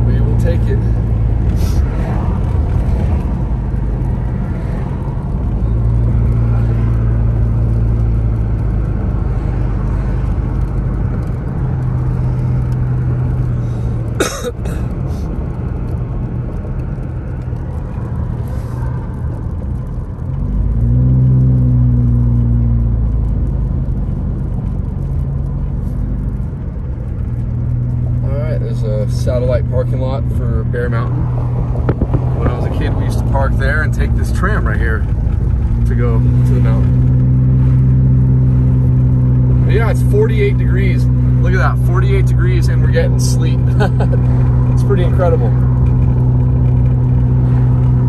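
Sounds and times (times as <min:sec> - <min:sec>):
car engine and tyre noise: 0:00.0 - 0:48.0.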